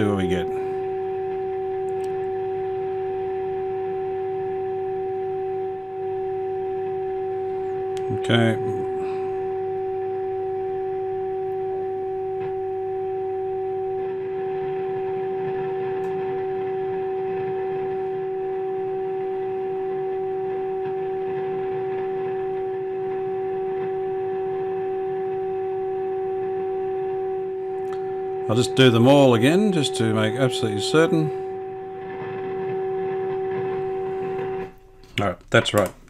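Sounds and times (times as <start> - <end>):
steady test tone from radio: 0.0 - 35.9.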